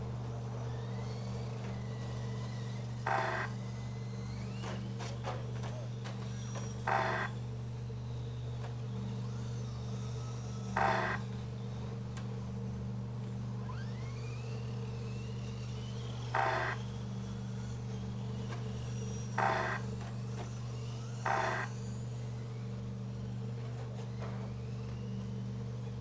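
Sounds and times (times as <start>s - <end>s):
rc truck motor whines: 0.0s - 26.0s.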